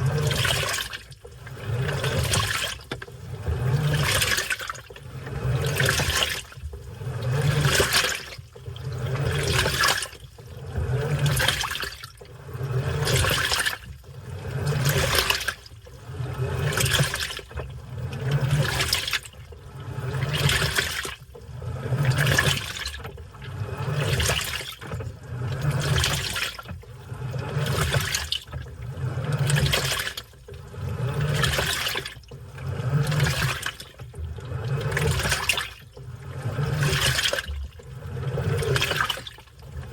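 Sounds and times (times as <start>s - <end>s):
washing machine water sloshing: 0.0s - 39.9s.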